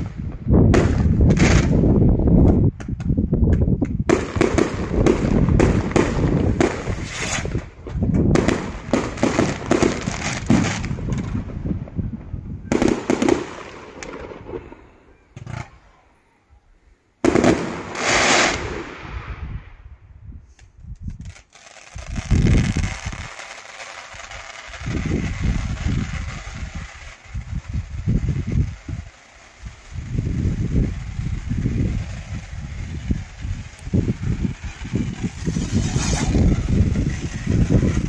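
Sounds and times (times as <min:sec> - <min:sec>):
fireworks bangs and crackling: 0:00.0 - 0:16.0, 0:17.2 - 0:19.7, 0:20.5 - 0:38.0.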